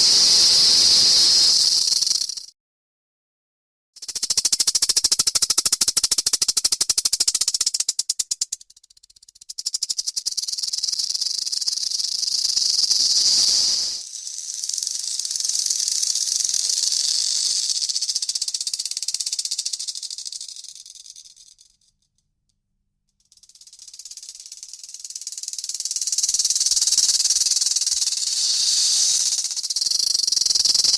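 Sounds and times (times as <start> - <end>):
rattlesnake rattle buzzing: 0.0 - 2.5, 4.0 - 21.7, 23.3 - 30.9.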